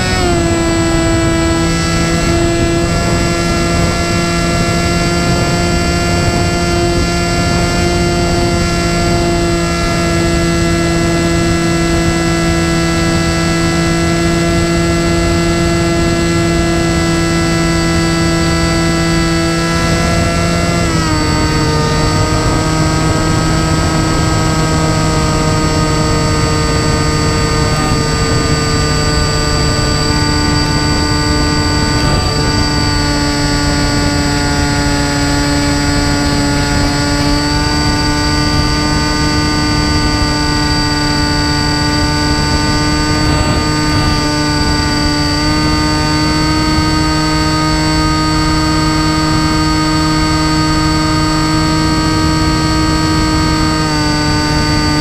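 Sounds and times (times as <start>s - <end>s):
electric motor and propeller whining: 0.0s - 55.0s.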